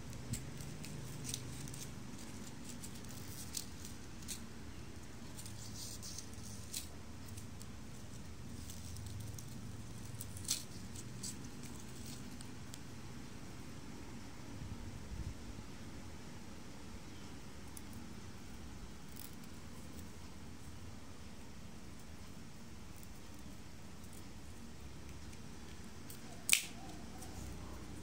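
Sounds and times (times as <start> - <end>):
low background noise: 0.0 - 28.0.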